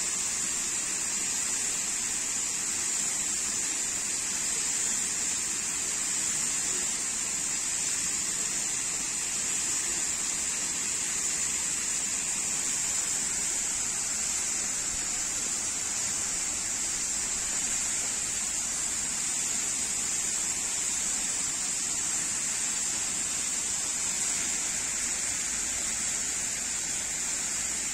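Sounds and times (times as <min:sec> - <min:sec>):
fountain water jets spraying: 0:00.0 - 0:27.9.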